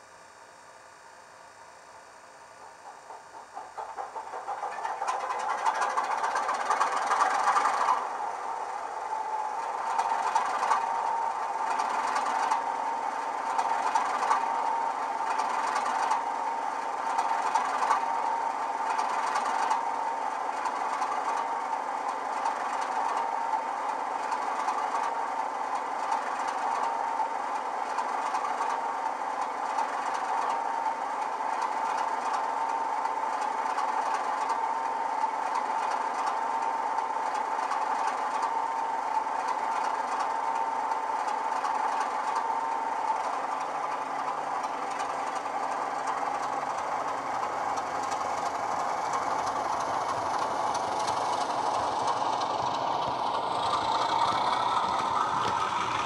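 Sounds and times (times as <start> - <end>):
model locomotive diesel engine sound: 0.0 - 56.0.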